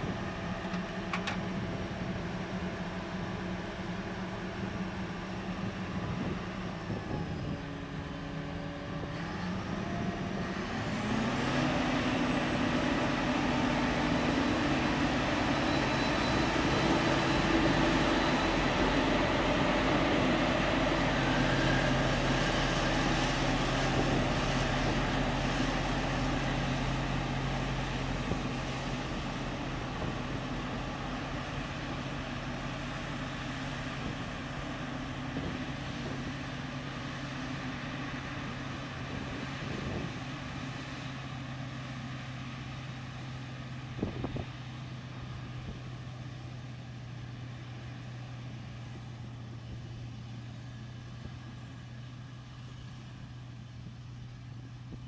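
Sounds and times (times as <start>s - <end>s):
harvester engine humming: 0.0s - 55.0s.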